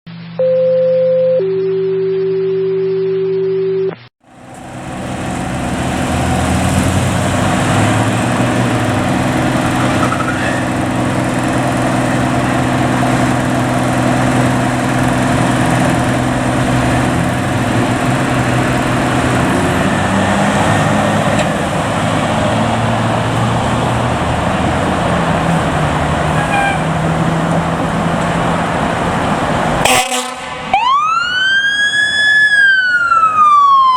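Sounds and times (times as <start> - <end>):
diesel engines running: 4.2 - 33.9.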